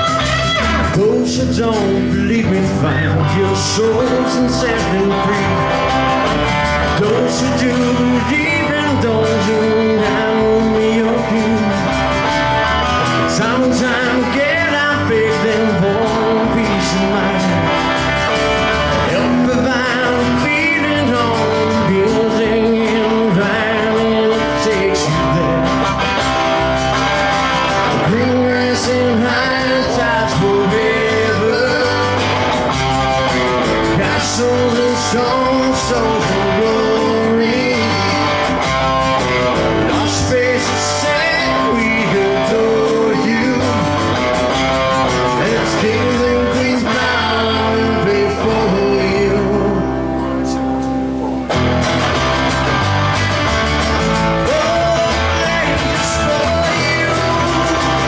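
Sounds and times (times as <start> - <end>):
acoustic guitar: 0.0 - 58.0
electric guitar melody: 0.0 - 58.0
upright bass: 0.0 - 58.0.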